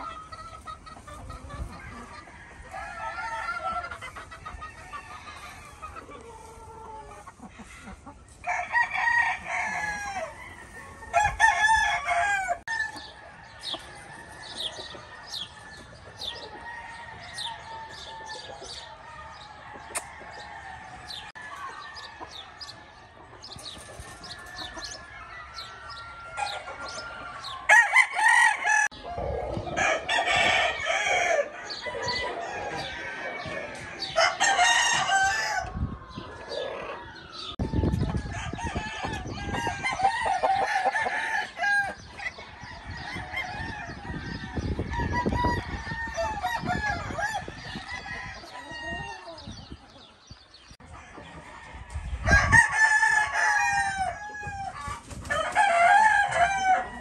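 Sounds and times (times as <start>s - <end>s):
chickens clucking: 0.0s - 57.0s
roosters crowing: 0.0s - 57.0s.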